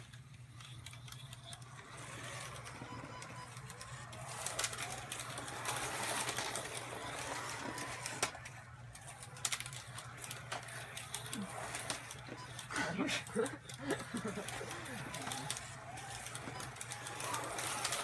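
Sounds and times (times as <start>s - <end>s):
slot car motors whirring: 0.0s - 18.0s.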